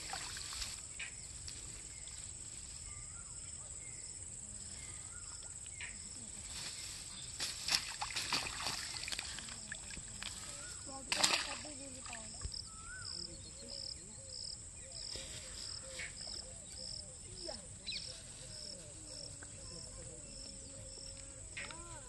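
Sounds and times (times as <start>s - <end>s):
tall grass rustling: 0.0s - 3.4s, 5.8s - 13.0s, 14.9s - 22.0s.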